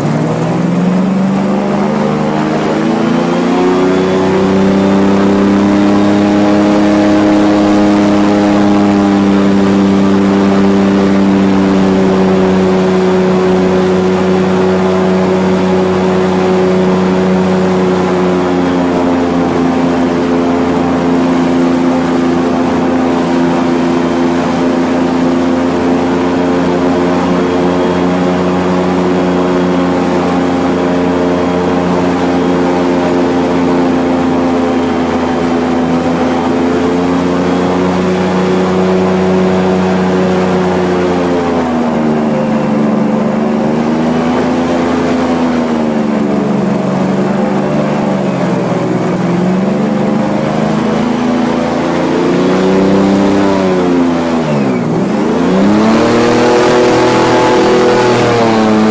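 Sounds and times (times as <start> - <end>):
airboat engine drone: 0.0 - 58.9.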